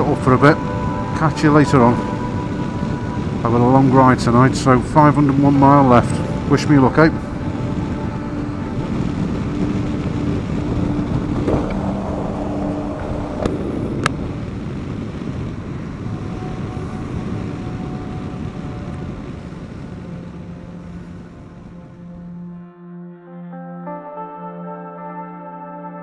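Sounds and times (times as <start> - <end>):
wind and road noise: 0.0 - 22.3
motorcycle engine hum: 0.0 - 22.4.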